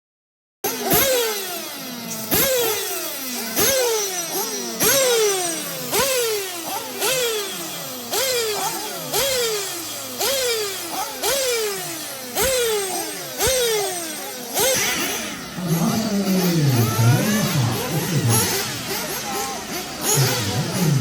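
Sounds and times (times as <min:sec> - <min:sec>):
small nitro engines revving: 0:00.6 - 0:21.0.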